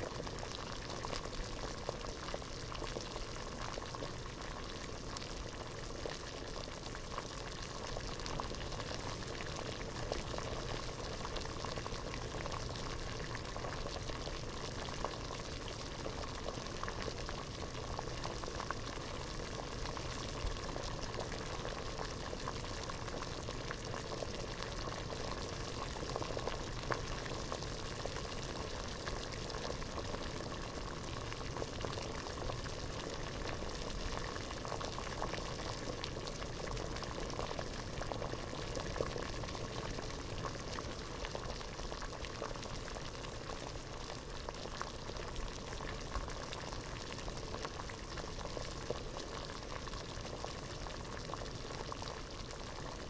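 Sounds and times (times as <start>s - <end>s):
water boiling in a pot: 0.0s - 53.0s.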